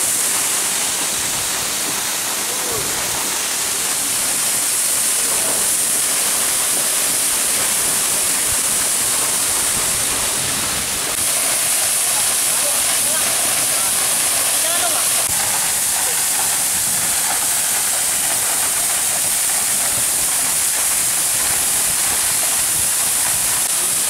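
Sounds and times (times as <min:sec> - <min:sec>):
waterfall crashing onto rocks: 0:00.0 - 0:24.0.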